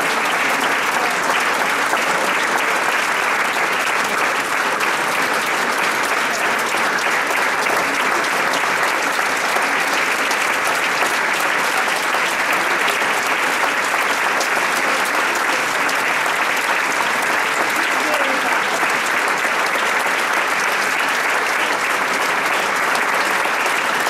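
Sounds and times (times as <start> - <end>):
crowd clapping: 0.0 - 24.0.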